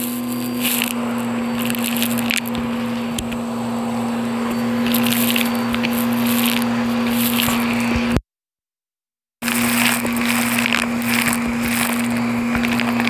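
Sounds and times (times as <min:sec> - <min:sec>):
debris crackling in vacuum hose: 0:00.0 - 0:08.2, 0:09.4 - 0:13.0
vacuum cleaner humming: 0:00.0 - 0:08.2, 0:09.4 - 0:13.0.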